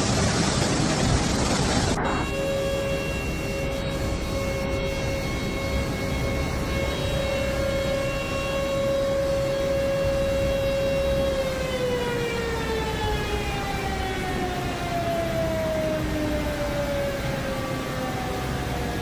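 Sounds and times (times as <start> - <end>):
constant rushing noise: 0.0 - 19.0
warning siren winding down: 1.8 - 19.0.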